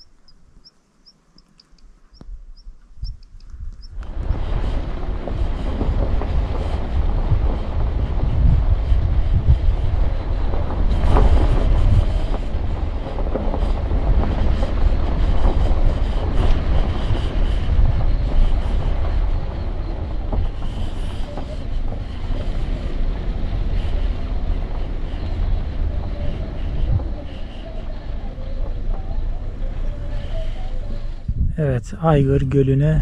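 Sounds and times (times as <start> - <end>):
tyre and suspension rumble: 0.0 - 33.0.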